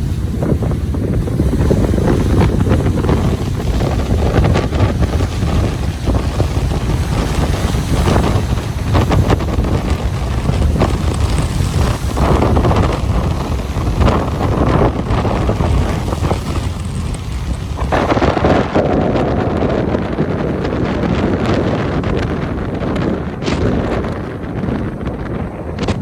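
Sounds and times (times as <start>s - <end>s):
waves washing on beach: 0.0s - 26.0s
wind buffeting microphone: 0.0s - 26.0s.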